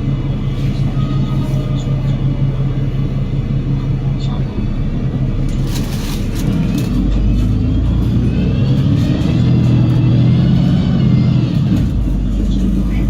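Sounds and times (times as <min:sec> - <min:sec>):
bus diesel engine under load: 0:00.0 - 0:13.0.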